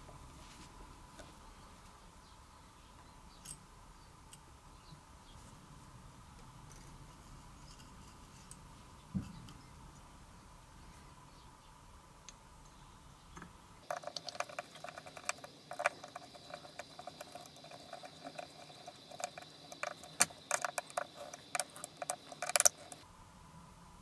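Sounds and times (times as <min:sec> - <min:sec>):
faint steady high hiss: 0:00.0 - 0:24.0.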